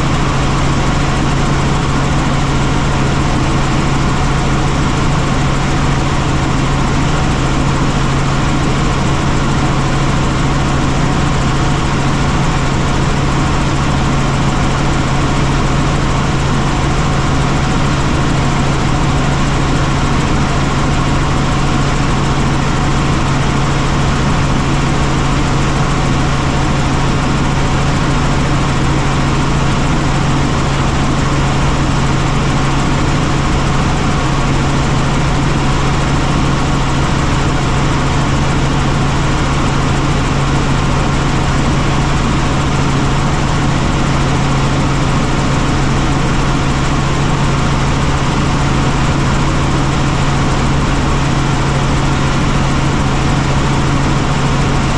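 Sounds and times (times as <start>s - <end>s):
helicopter engine and rotors: 0.0s - 54.9s.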